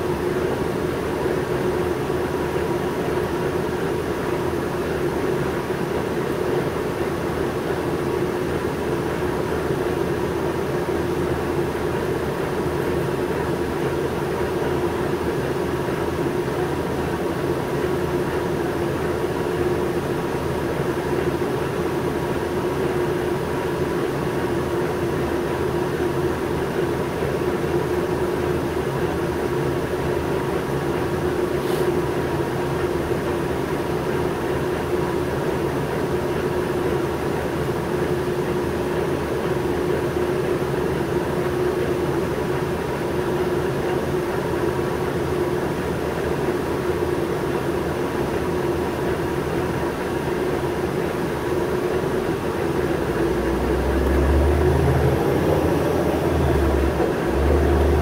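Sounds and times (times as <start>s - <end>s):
bus engine and road noise: 0.0s - 58.0s
constant whine: 0.0s - 58.0s.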